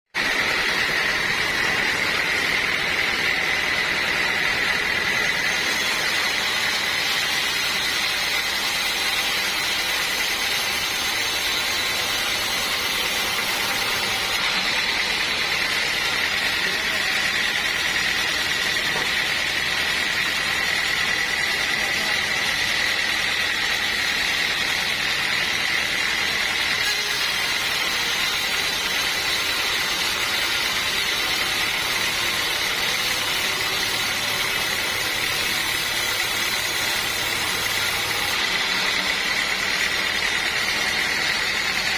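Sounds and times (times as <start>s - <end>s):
band saw cutting timber: 0.1s - 41.9s.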